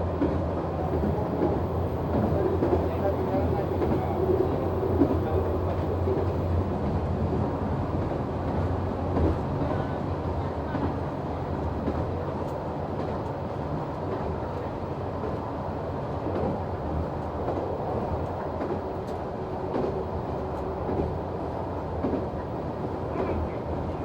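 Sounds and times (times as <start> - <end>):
railcar engine hum: 0.0 - 24.0.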